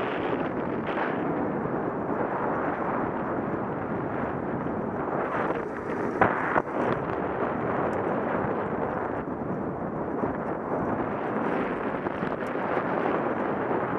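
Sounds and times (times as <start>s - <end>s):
bike ride rumble: 0.0s - 13.9s
wind buffeting microphone: 0.0s - 13.9s.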